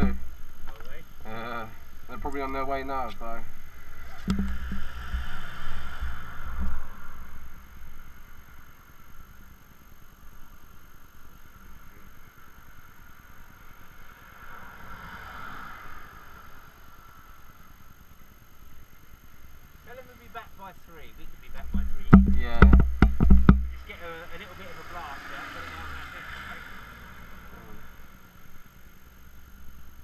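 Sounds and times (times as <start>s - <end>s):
road traffic passing: 0.0s - 9.8s, 11.3s - 30.0s.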